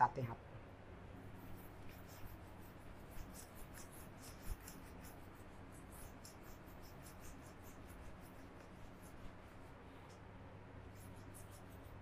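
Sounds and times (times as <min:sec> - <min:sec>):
eraser wiping whiteboard: 0:01.2 - 0:10.1, 0:10.8 - 0:12.0.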